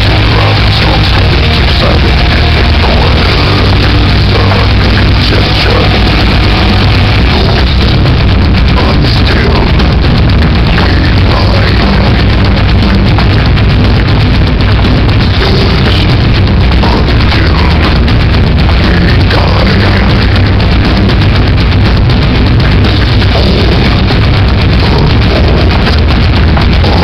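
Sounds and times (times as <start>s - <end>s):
loud rock music: 0.0s - 27.0s.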